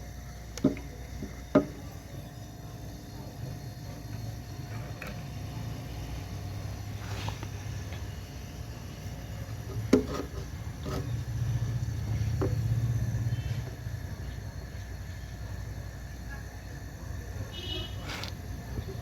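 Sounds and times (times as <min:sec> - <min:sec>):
refrigerator compressor humming: 0:00.0 - 0:19.0.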